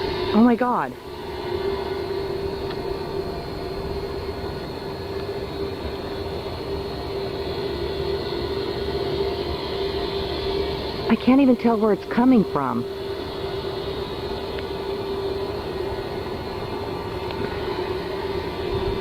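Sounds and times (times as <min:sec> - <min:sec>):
held tone drone: 0:00.0 - 0:19.0.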